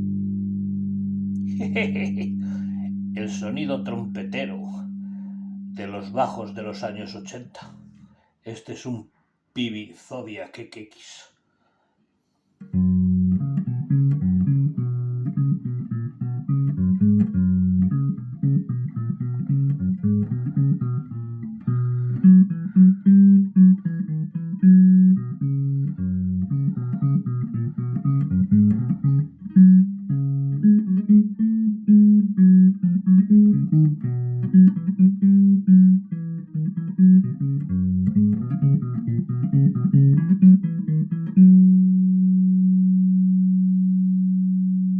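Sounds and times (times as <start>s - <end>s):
electric bass line plucked: 0.0s - 8.1s, 12.7s - 44.9s.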